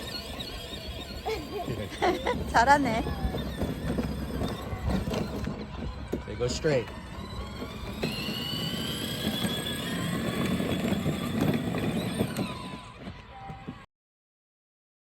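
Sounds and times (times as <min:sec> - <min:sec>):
small vehicle motor whine: 0:00.0 - 0:13.9
wheels rumbling: 0:00.0 - 0:13.9.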